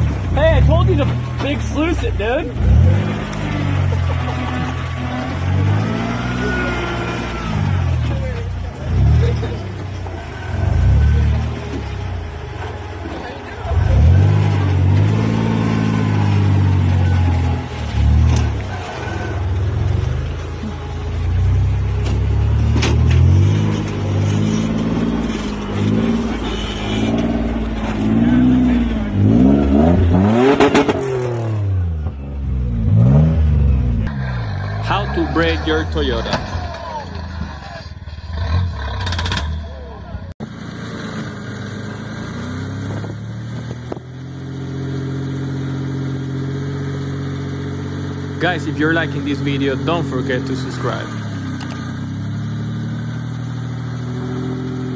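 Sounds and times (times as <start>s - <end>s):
off-road vehicle engine revving: 0.0s - 54.9s.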